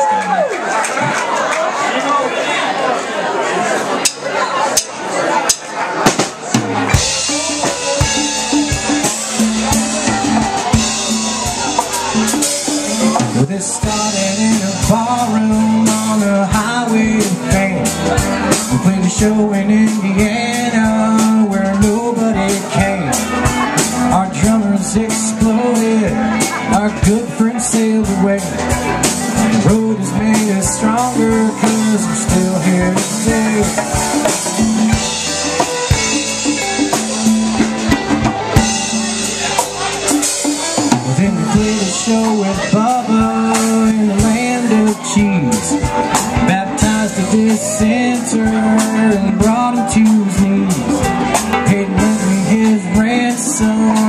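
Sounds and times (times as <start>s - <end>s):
live rock band instrumental: 4.0s - 54.0s
drum kit hits: 5.5s - 54.0s
bass guitar line: 6.0s - 54.0s
electric guitars: 6.6s - 54.0s.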